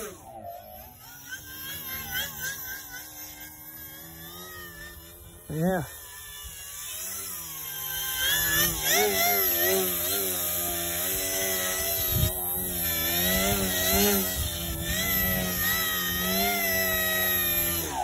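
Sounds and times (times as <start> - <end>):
electric model plane motor whine: 0.0 - 18.0.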